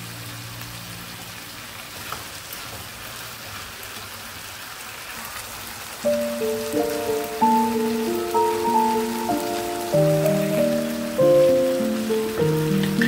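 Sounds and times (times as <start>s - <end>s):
food sizzling in oil: 0.1s - 13.0s.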